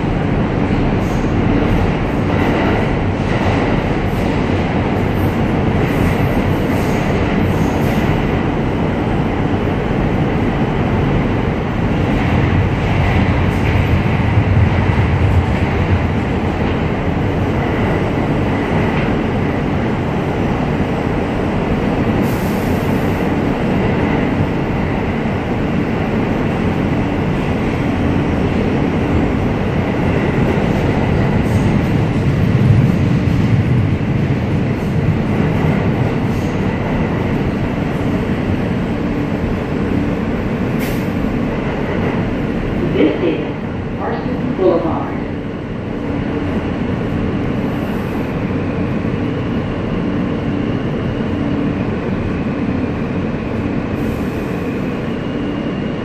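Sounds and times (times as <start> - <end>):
subway car wheels rumbling on rail: 0.0 - 56.0.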